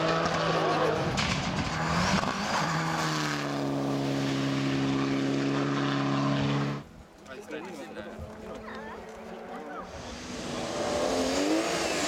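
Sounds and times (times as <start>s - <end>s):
rally car engine revving: 0.0s - 6.8s, 8.3s - 12.0s
gravel and road noise: 0.0s - 12.0s.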